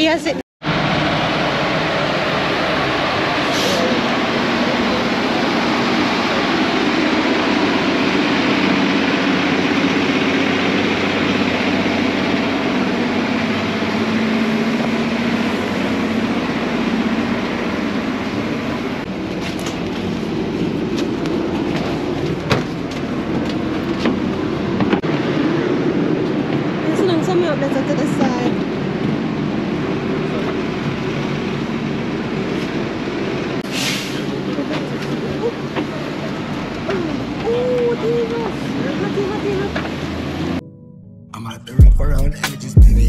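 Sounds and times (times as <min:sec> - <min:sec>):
road and rattle noise: 0:00.0 - 0:40.6
bus engine drone: 0:00.0 - 0:43.0.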